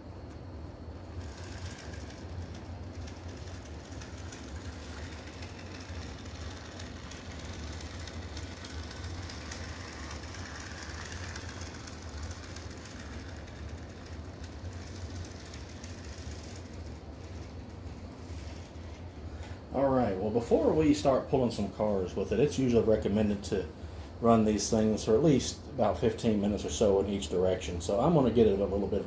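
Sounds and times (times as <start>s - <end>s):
model train motor whirring: 0.3s - 29.0s.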